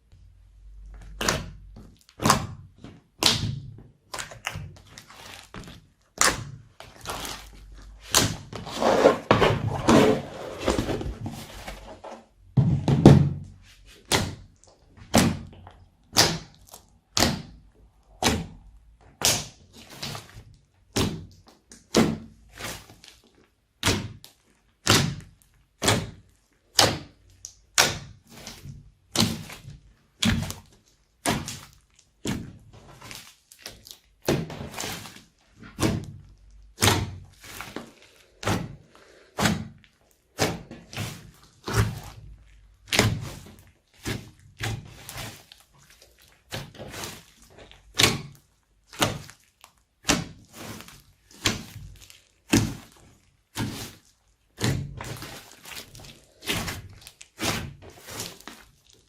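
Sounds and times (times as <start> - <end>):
slime slapping wetly: 0.8 - 8.7, 13.1 - 59.0.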